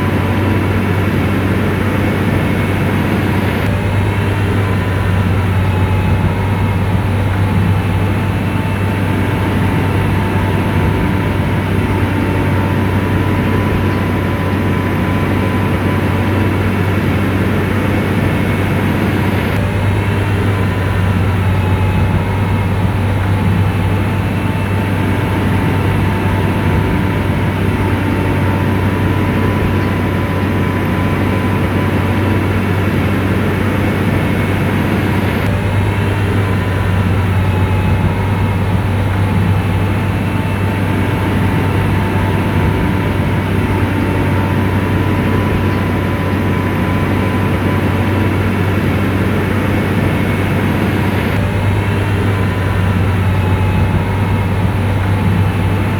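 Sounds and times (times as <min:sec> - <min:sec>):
diesel engine humming: 0:00.0 - 0:55.9
faint whine: 0:00.0 - 0:55.9.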